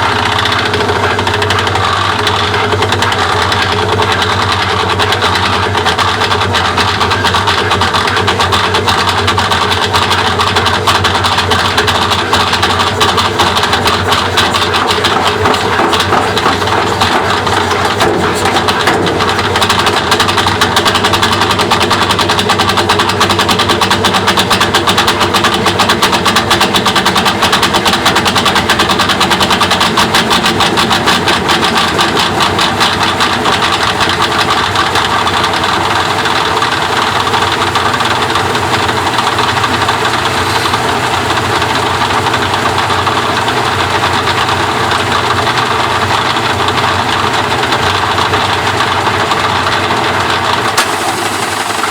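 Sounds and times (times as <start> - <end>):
machine rattling: 0.0 - 51.9
machine hum: 10.1 - 51.9.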